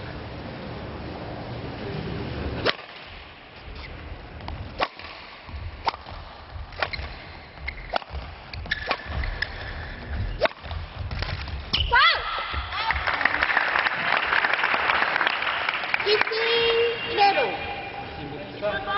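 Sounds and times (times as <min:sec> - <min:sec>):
low hall murmur: 0:00.0 - 0:07.5, 0:08.2 - 0:18.9.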